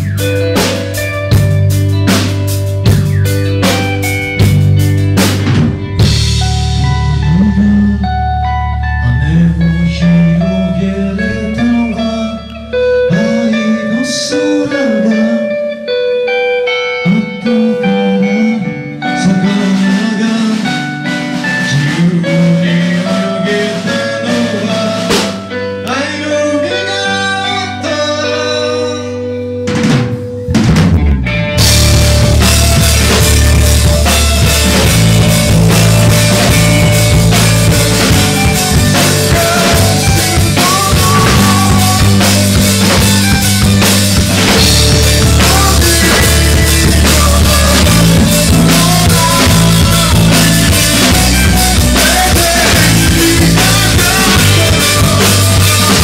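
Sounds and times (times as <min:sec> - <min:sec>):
drums: 0:00.0 - 0:56.0
guitar: 0:00.0 - 0:56.0
live rock band playing: 0:00.0 - 0:56.0
person singing: 0:06.4 - 0:29.6, 0:31.7 - 0:56.0.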